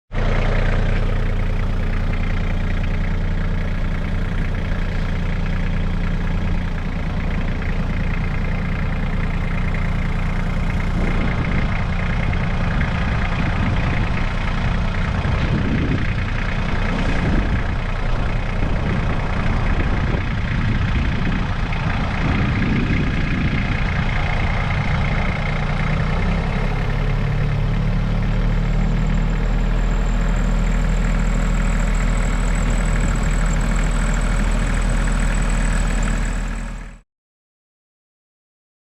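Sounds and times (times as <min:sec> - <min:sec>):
tractor diesel engine idling: 0:00.1 - 0:37.0.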